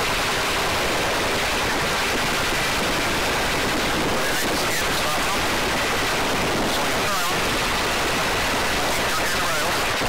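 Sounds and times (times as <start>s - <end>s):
helicopter hovering: 0.0s - 10.0s.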